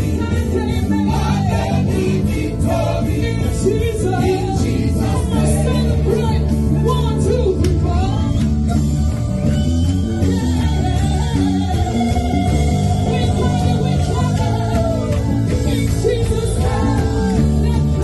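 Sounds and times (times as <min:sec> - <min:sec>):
gospel band playing: 0:00.0 - 0:18.0.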